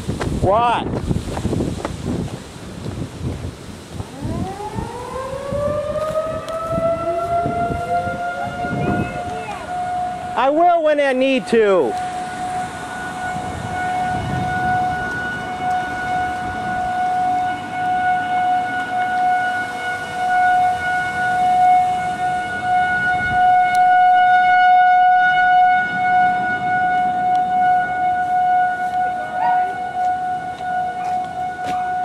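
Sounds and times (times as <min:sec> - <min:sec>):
siren steady tone: 0:03.9 - 0:32.0.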